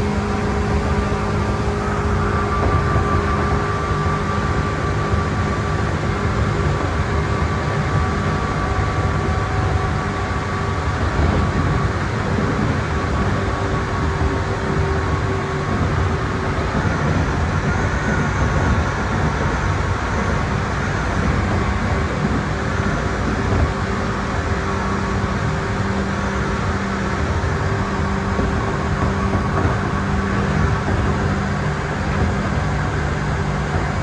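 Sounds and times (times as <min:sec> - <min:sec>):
traction motor hum: 0:00.0 - 0:34.0
wheels rumbling on rail: 0:00.0 - 0:34.0.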